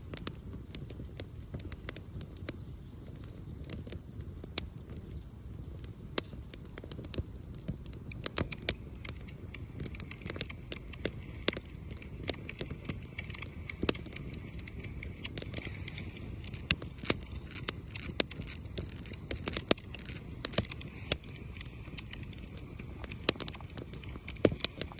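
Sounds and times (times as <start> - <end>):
campfire crackling and popping: 0.0 - 24.9
low rush of burning fire: 0.1 - 24.9.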